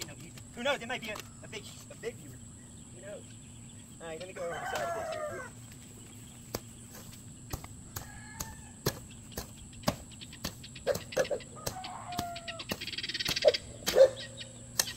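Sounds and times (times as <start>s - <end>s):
chickens clucking: 1.1s - 14.9s.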